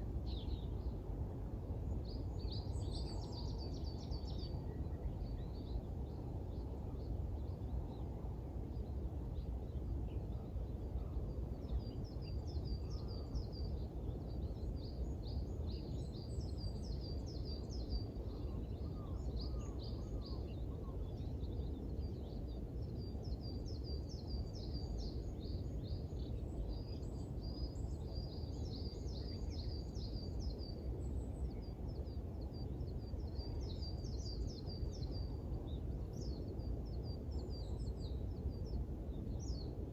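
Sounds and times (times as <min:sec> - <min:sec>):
songbirds twittering: 0:00.2 - 0:39.9.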